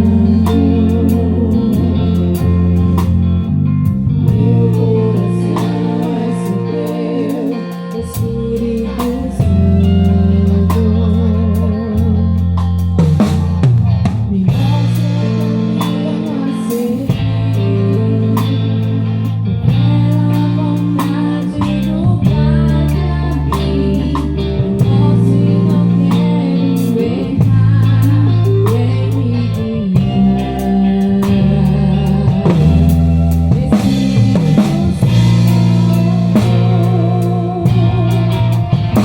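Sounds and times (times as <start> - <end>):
bass notes: 0.0 - 39.0
drum kit beat: 0.0 - 39.0
guitar: 0.0 - 39.0.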